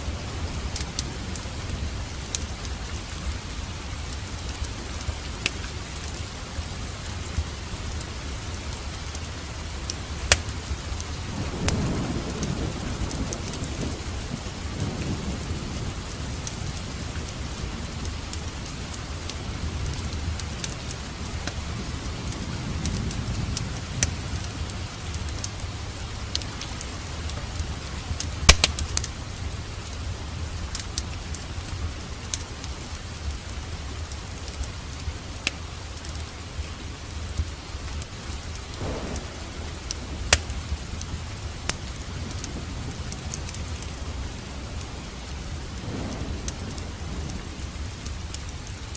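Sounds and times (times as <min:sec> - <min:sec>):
thunder rumbling: 0:00.0 - 0:32.2, 0:38.4 - 0:48.9
steady rain: 0:00.0 - 0:48.9
wood fire crackling: 0:00.0 - 0:48.9.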